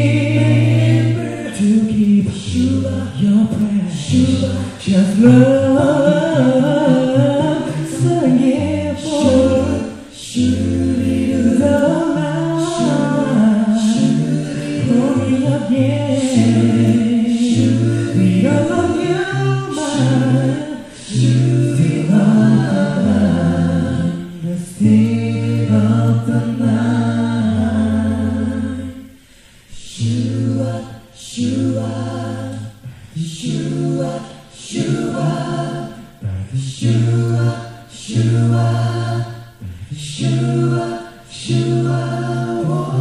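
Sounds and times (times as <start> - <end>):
male vocal group singing a cappella: 0.0 - 43.0.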